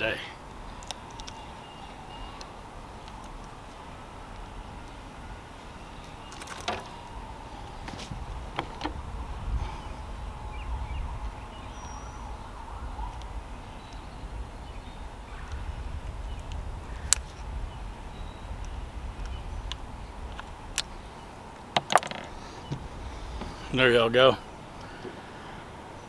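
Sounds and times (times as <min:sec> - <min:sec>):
wind rumble on microphone: 0:00.0 - 0:24.8.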